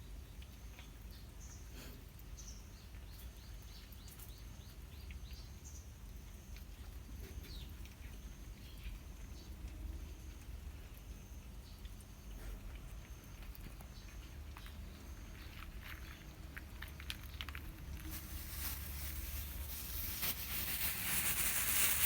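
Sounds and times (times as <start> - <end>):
small birds chirping: 0.0 - 6.4, 7.2 - 16.4, 17.2 - 22.0.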